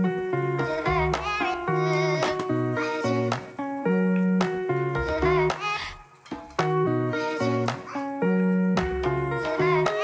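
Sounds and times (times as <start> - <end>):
light instrumental music with beat: 0.0 - 10.0.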